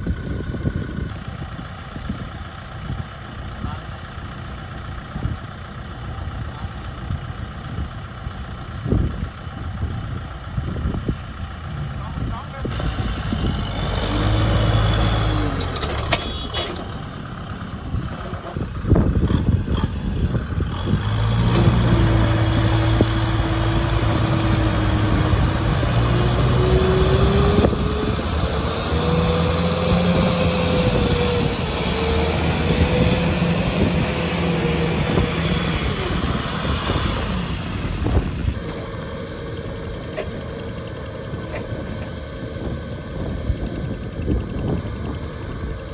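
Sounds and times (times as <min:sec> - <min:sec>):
engine whine: 0:00.0 - 0:45.9
tractor diesel engines running: 0:00.0 - 0:45.9.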